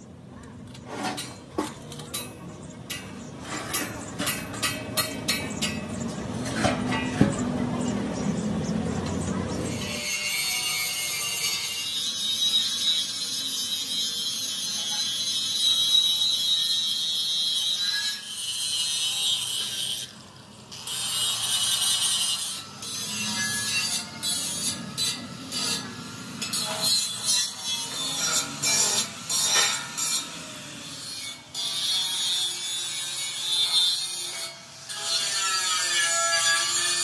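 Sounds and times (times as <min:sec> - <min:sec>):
angle grinder grinding steel: 0:00.8 - 0:08.0, 0:09.2 - 0:37.0.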